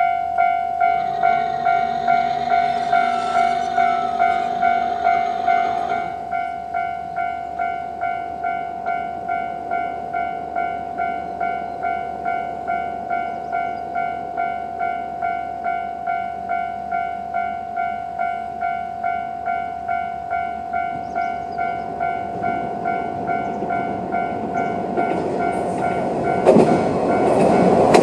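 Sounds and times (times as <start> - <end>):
diesel railcar engine and wheels: 0.0 - 28.0
level-crossing warning bell: 0.0 - 28.0.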